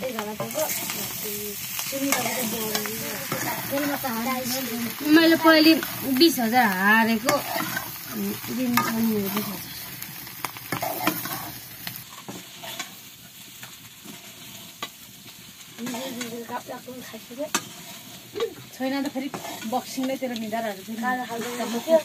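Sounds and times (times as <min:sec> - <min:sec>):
metal spatula scraping: 0:00.0 - 0:15.0, 0:15.8 - 0:22.0
potatoes sizzling in a wok: 0:00.0 - 0:22.0.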